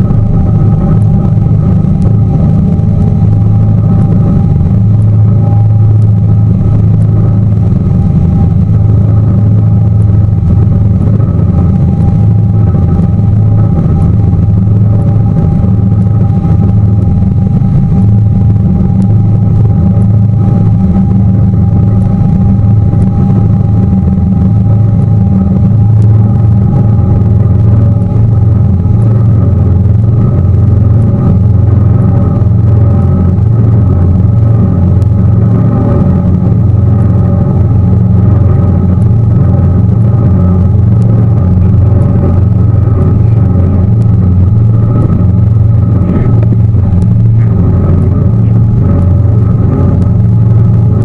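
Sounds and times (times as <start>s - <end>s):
boat engine drone: 0.0s - 51.0s
faint steady whine: 0.0s - 51.0s.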